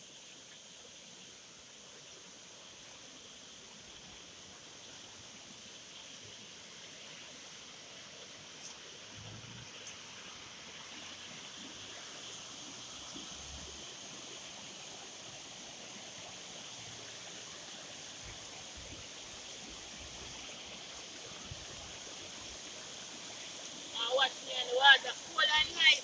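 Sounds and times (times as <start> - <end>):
river water rushing: 0.1 - 26.0.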